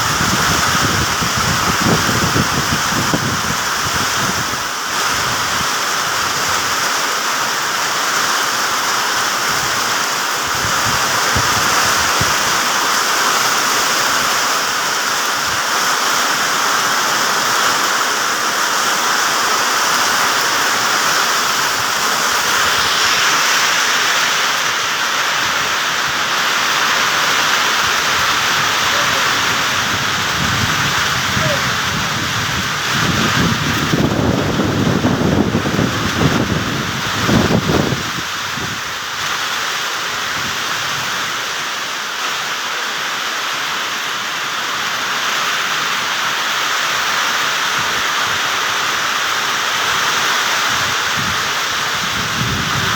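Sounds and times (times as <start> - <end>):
rain falling on leaves: 0.0 - 52.9.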